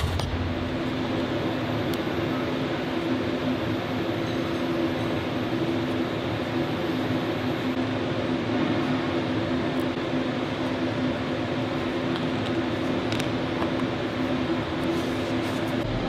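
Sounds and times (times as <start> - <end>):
workshop machine hum: 0.0 - 16.0.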